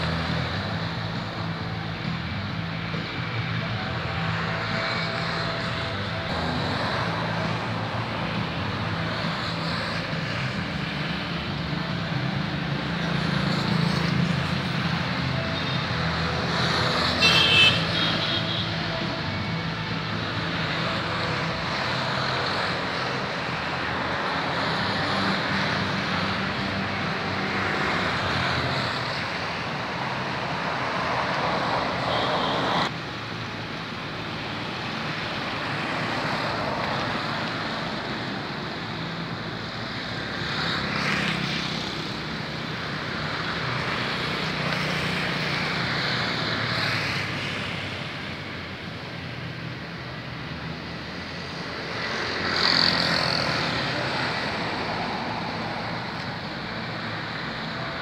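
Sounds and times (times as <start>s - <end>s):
city street traffic: 0.0s - 58.0s.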